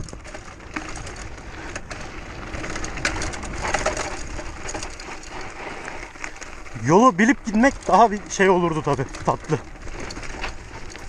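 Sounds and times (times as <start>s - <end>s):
bike rattling: 0.0s - 11.0s
bike tyres crunching on stones: 0.0s - 11.0s.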